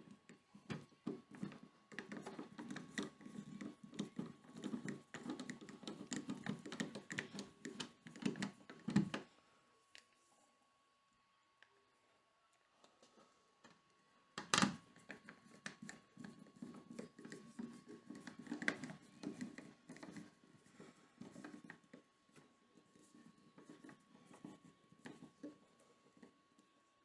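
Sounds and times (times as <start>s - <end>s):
small clicks taps and scrapes: 0.0s - 9.3s, 12.9s - 26.8s.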